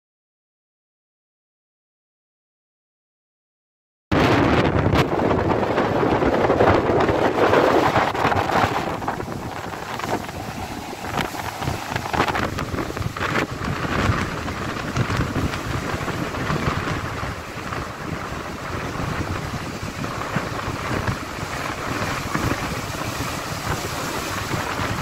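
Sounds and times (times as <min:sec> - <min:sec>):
wind buffeting microphone: 0:04.1 - 0:25.0.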